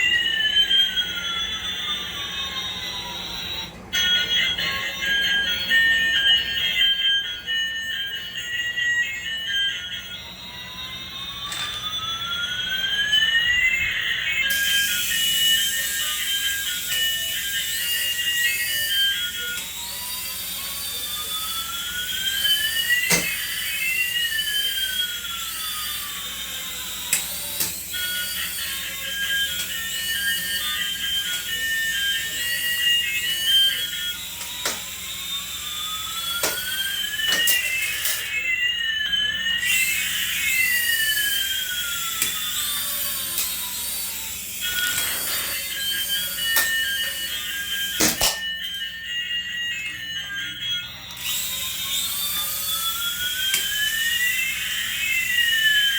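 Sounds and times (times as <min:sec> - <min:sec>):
toy falling and rising tones: 0:00.0 - 0:55.9.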